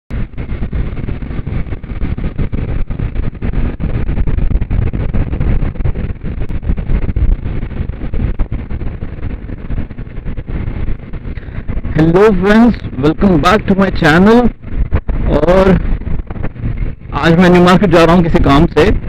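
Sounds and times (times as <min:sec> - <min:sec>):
motorcycle engine: 0:00.1 - 0:18.2
road noise: 0:00.1 - 0:19.0
wind buffeting microphone: 0:00.1 - 0:19.0.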